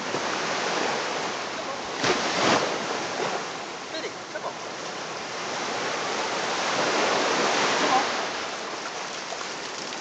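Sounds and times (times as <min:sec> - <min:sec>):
waves washing onto beach: 0:00.0 - 0:10.0.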